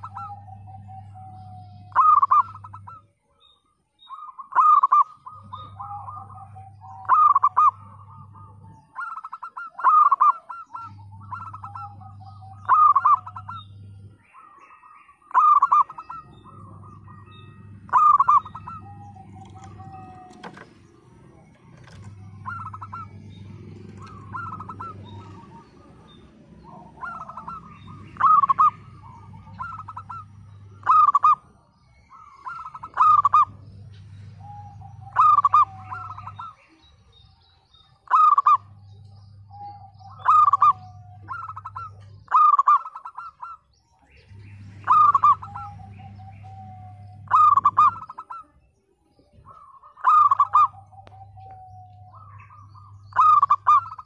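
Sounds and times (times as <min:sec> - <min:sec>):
dove cooing: 0:00.0 - 0:03.2, 0:04.0 - 0:36.8, 0:37.9 - 0:54.0
low hum: 0:05.0 - 0:09.0, 0:10.7 - 0:14.4, 0:15.5 - 0:42.3, 0:43.8 - 0:54.0.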